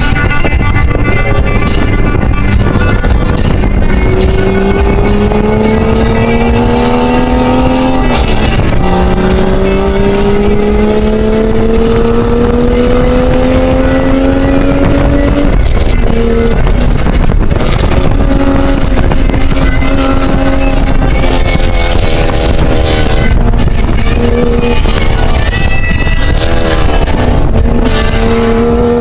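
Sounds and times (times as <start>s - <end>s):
car engine accelerating: 0.0s - 29.0s
road and wind noise: 0.0s - 29.0s.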